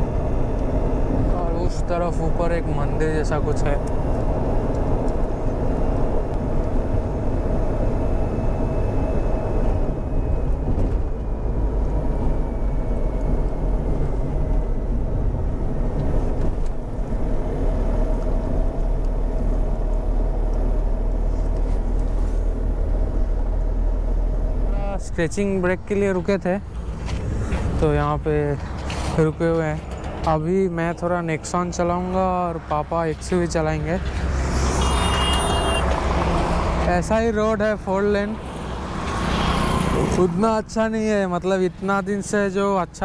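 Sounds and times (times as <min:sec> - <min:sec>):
road and engine noise: 0:00.0 - 0:43.0.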